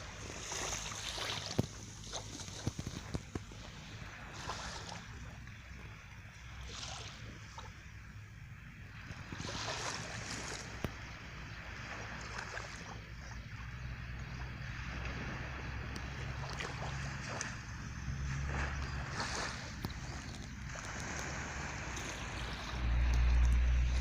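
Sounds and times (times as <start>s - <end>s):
sea waves washing onto shore: 0.0s - 7.4s, 8.9s - 24.0s
wind rumble on microphone: 0.0s - 24.0s.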